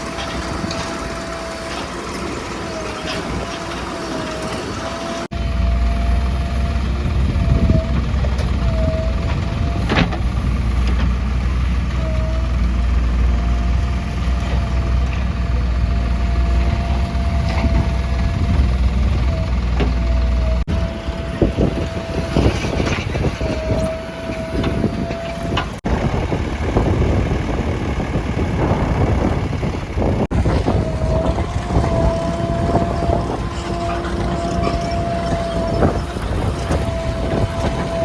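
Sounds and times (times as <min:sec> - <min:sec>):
diesel engines rumbling: 0:00.0 - 0:38.0.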